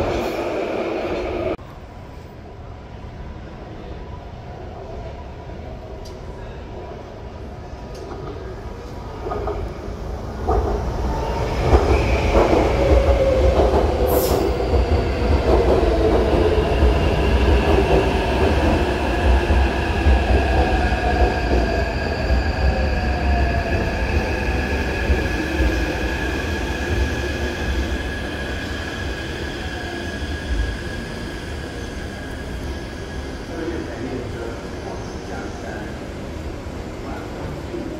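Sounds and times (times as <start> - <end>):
metro train running past: 0.0 - 37.9.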